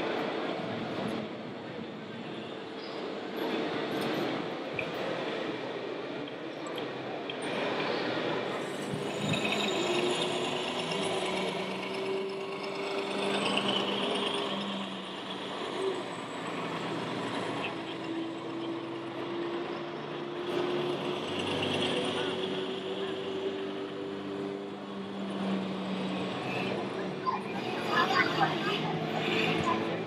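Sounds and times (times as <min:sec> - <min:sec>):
busy hall background noise: 0:00.0 - 0:30.0.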